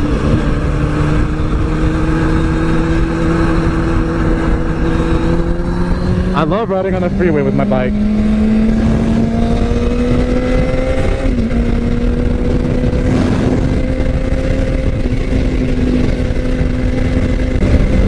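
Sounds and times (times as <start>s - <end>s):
motorcycle engine cruising: 0.0s - 18.0s
wind and road noise: 0.0s - 18.0s.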